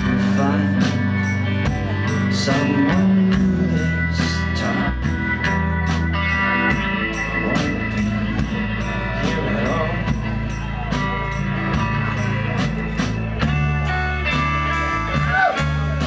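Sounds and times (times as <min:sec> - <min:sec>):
drums keeping a steady beat: 0:00.0 - 0:16.0
electric guitars: 0:00.0 - 0:16.0.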